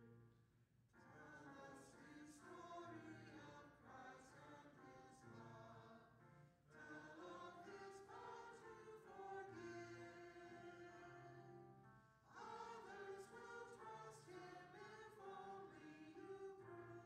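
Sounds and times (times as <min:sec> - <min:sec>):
group singing a hymn: 0:01.2 - 0:06.0, 0:06.7 - 0:11.4, 0:12.3 - 0:17.0.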